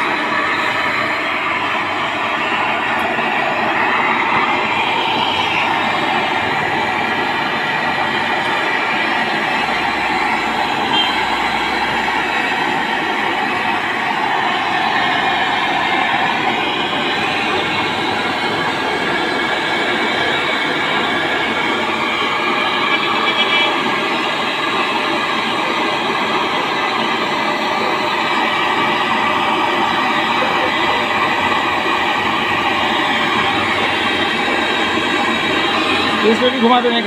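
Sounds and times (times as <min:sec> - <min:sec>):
gas torch hissing: 0:00.0 - 0:37.0.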